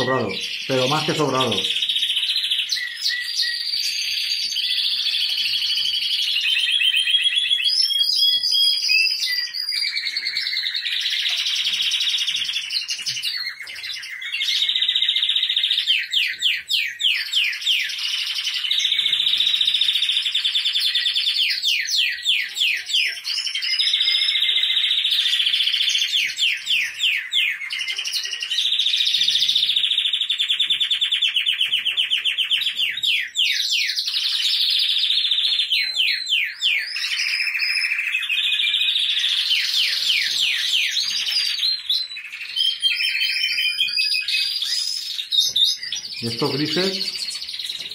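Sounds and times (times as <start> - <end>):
canaries singing trills: 0.0 - 47.9.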